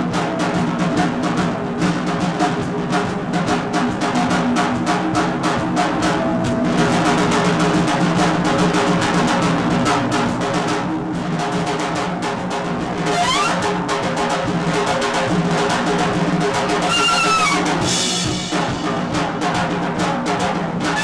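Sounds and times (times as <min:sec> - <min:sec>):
drums and percussion: 0:00.0 - 0:21.0.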